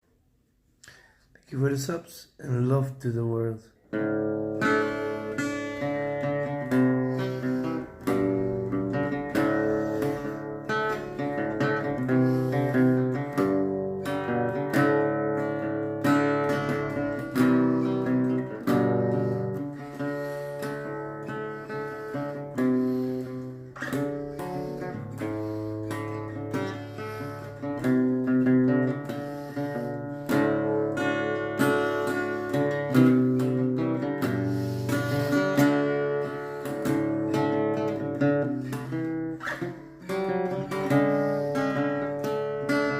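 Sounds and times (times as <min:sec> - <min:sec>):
acoustic guitar playing: 0:01.5 - 0:42.9.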